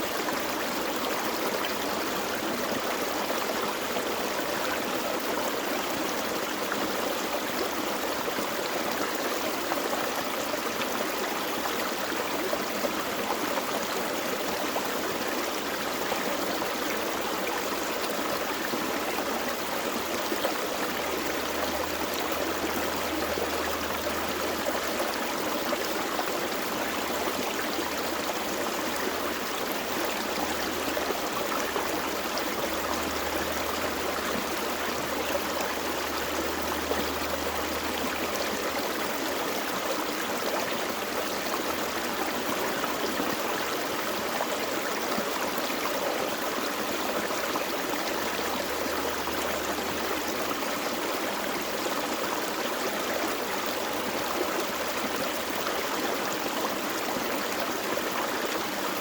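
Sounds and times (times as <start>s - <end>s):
creek flowing: 0.0s - 59.0s.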